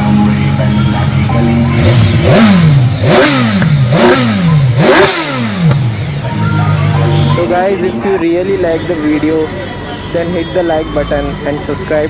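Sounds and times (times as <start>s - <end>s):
motorcycle engine revving: 0.4s - 11.8s.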